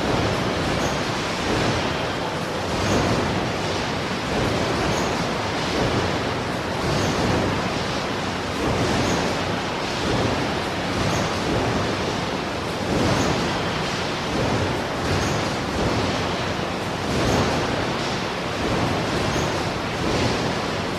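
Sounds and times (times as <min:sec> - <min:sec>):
factory machinery noise: 0:00.0 - 0:20.9.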